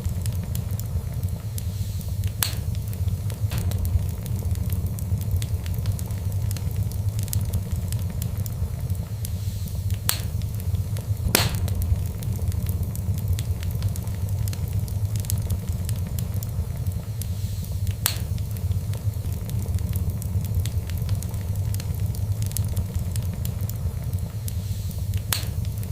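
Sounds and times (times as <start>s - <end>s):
fire crackles and pops: 0.0s - 25.9s
wood fire rumbling: 0.0s - 25.9s.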